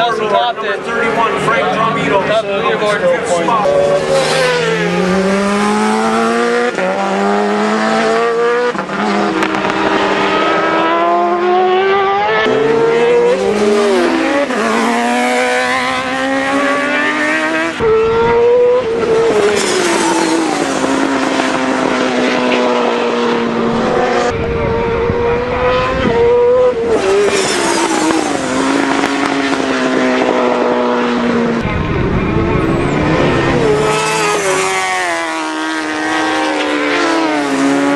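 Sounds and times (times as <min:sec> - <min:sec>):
racing motorcycle engines revving: 0:00.0 - 0:37.9.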